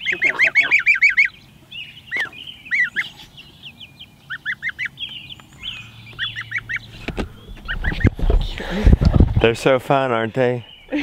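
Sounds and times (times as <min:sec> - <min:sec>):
gosling and chicks peeping: 0:00.0 - 0:11.0.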